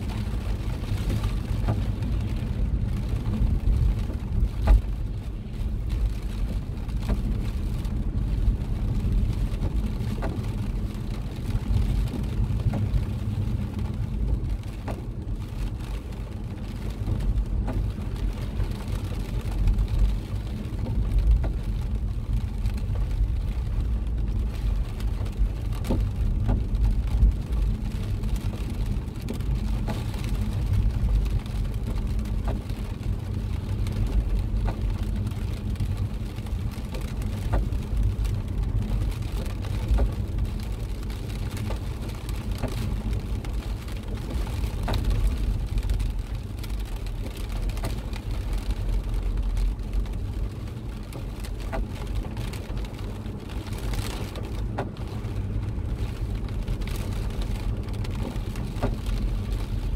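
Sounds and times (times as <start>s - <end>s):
car driving on wet road: 0.0s - 59.9s
rain tapping on car: 0.0s - 59.9s.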